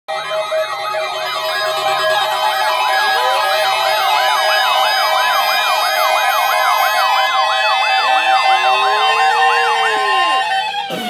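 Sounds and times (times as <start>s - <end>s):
low wailing siren: 0.1s - 11.0s
siren-like yelp: 0.1s - 11.0s
electronic alert tones: 0.8s - 10.4s.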